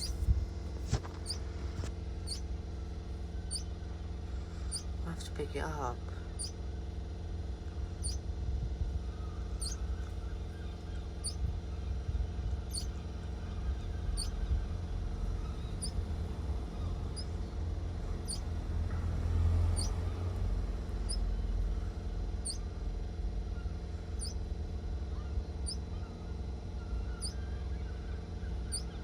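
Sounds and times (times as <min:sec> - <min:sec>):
small bird chirping: 0:00.0 - 0:06.6, 0:07.8 - 0:08.3, 0:09.0 - 0:22.7, 0:23.6 - 0:24.5, 0:25.2 - 0:29.0
steady low rumble: 0:00.0 - 0:29.0.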